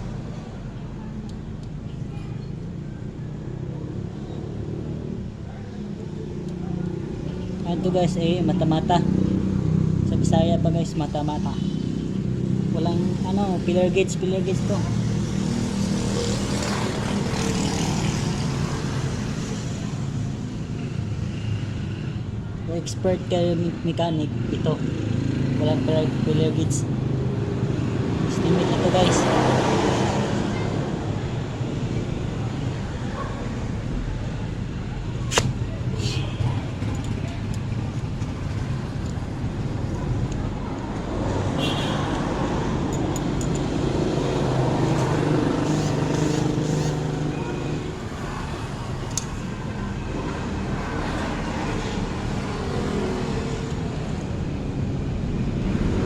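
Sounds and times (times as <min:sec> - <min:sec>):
steady engine hum: 0:00.0 - 0:56.0.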